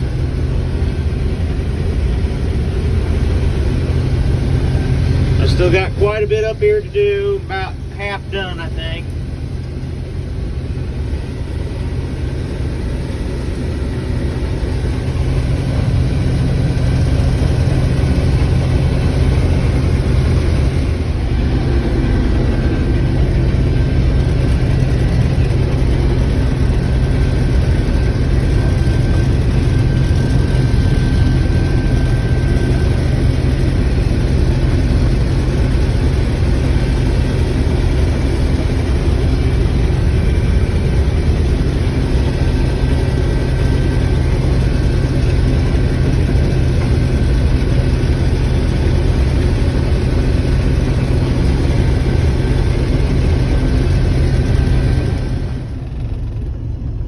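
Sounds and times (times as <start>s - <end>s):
combine harvester engine hum: 0.0s - 57.0s.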